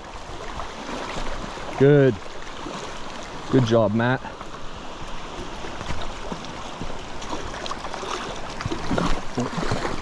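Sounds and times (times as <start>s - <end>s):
stream rushing: 0.0s - 10.0s
water splashing around legs: 0.0s - 10.0s.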